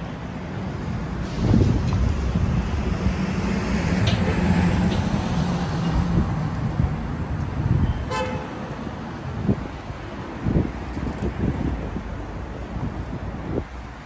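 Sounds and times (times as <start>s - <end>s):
traffic engine rumble: 0.0s - 14.0s.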